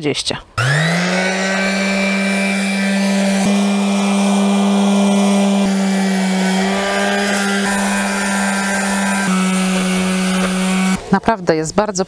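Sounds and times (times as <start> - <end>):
electric sander humming: 0.6 - 11.3.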